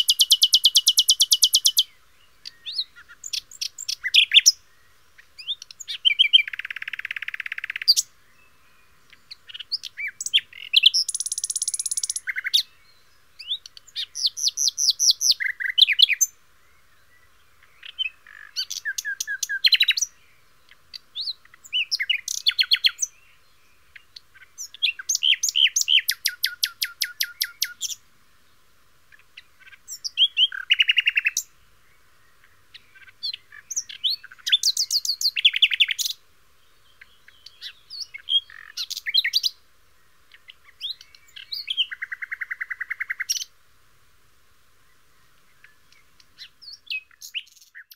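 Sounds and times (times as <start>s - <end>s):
bird calls and songs: 0.0s - 43.6s, 44.4s - 47.9s.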